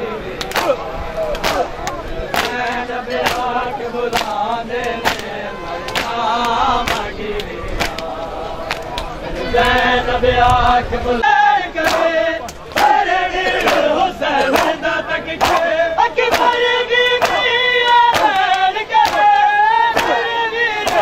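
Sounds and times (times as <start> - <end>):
men chanting loudly: 0.0 - 21.0
hands slapping chests in unison: 0.4 - 9.8, 11.8 - 21.0.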